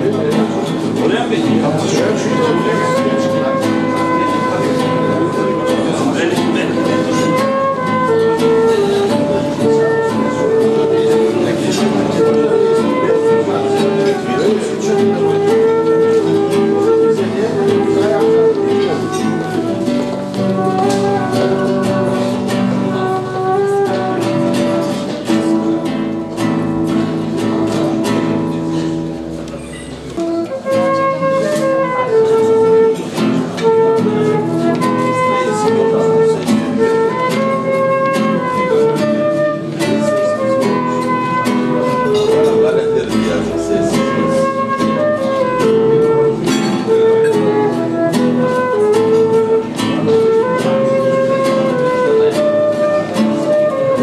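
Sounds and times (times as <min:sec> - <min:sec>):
acoustic guitar: 0:00.0 - 0:54.0
wind instrument melody: 0:00.0 - 0:54.0.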